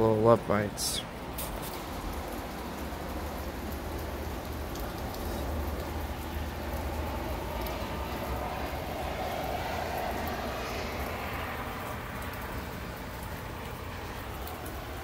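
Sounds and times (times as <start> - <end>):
highway traffic rumble and hiss: 0.0 - 15.0
rain falling: 0.0 - 15.0.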